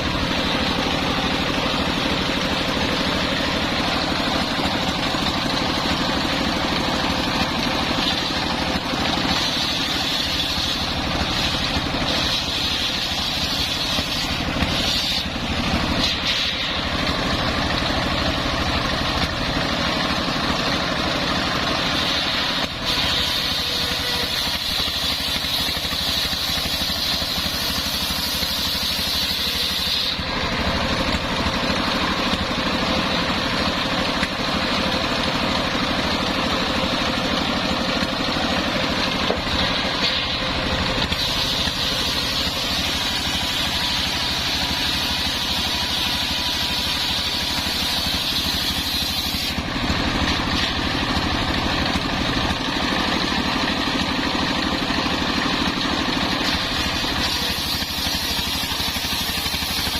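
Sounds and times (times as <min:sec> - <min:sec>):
saw blade whining through wood: 0:00.0 - 0:59.9
sawmill engine running: 0:00.0 - 0:59.9.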